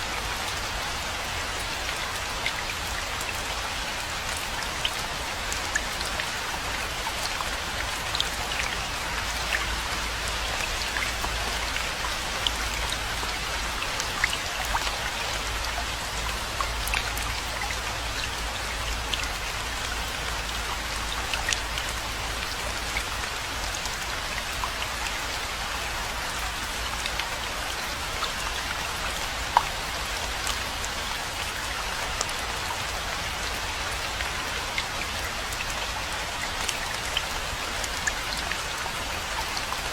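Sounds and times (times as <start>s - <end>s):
raindrops ticking close by: 0.0s - 39.9s
steady rain hiss: 0.0s - 39.9s.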